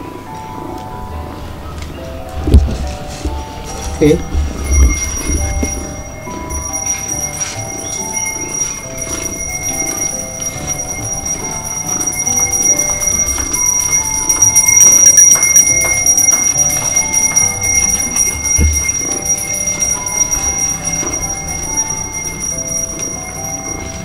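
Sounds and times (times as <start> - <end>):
bell-like melody: 0.0 - 24.0.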